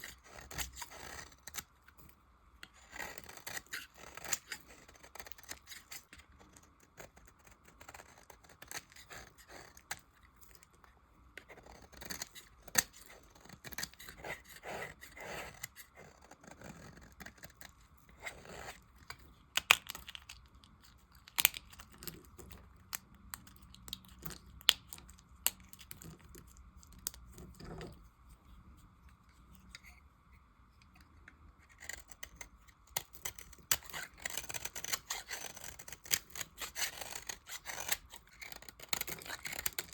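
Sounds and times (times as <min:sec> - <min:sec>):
knife cutting and scraping soap: 0:00.0 - 0:39.9.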